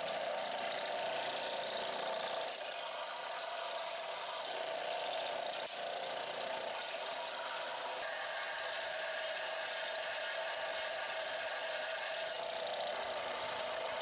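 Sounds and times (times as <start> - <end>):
metal grinding on sanding belt: 0.0 - 6.1, 6.7 - 14.0
belt sander motor hum: 0.0 - 14.0.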